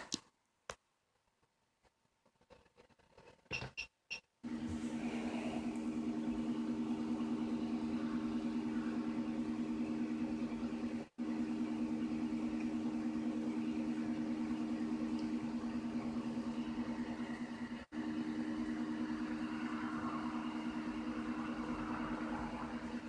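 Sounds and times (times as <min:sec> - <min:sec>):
printer motors humming: 0:04.5 - 0:23.0.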